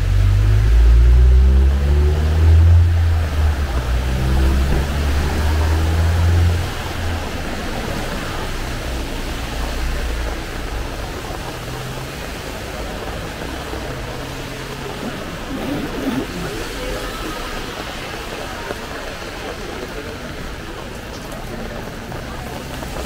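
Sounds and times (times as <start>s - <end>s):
rain hissing: 0.0s - 23.0s
traffic on wet street: 0.0s - 23.0s
vehicle engine hum: 0.0s - 23.0s.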